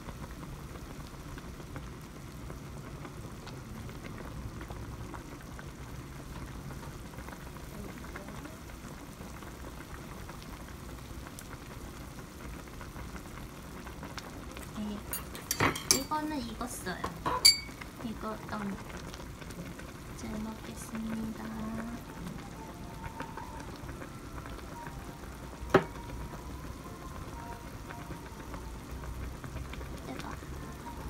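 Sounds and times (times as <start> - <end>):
broth boiling and bubbling: 0.0 - 31.0.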